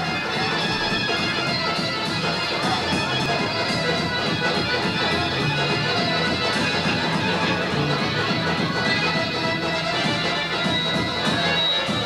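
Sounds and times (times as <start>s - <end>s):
dance music with high melody: 0.0s - 12.0s.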